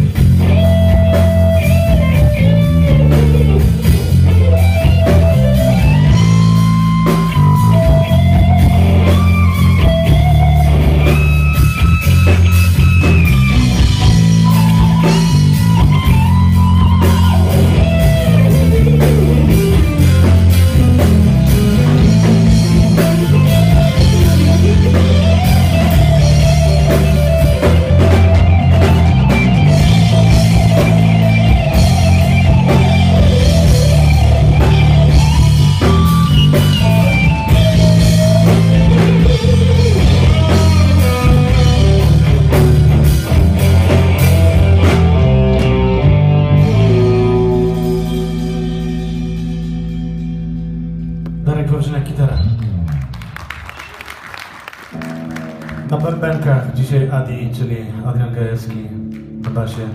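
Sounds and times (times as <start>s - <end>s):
drum kit beat: 0.0s - 51.5s
deep bass notes: 0.0s - 53.5s, 54.9s - 59.9s
electric guitar lead lines: 0.0s - 59.9s
guitar chord ringing: 0.4s - 52.4s, 55.0s - 57.2s.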